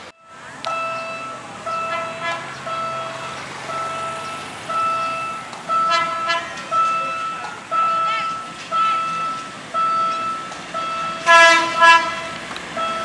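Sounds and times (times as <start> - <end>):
warning tone beeps: 0.2 - 11.3.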